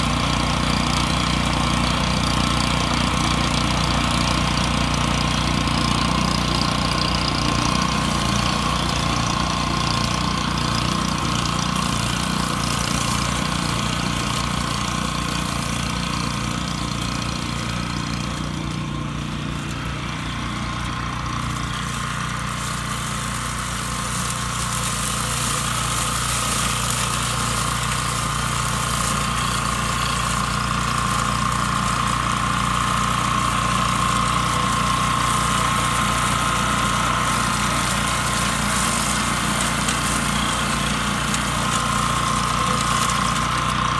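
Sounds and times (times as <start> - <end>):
lawn mower engine running: 0.0 - 43.9.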